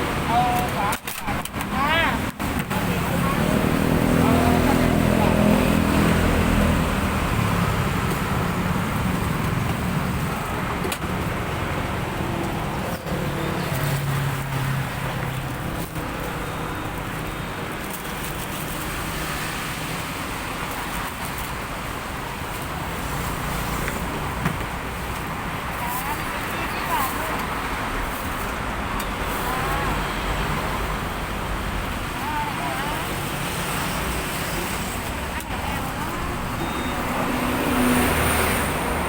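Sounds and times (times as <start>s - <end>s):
road traffic passing: 0.0s - 39.0s.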